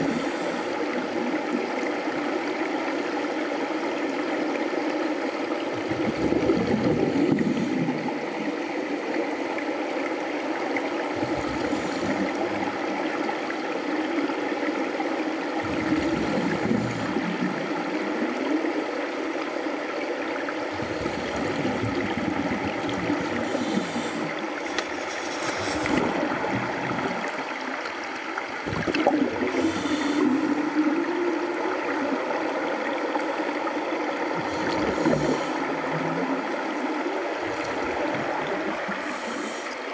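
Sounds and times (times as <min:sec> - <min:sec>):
steady water hiss: 0:00.0 - 0:39.9
underwater bubble gurgles: 0:00.0 - 0:39.9.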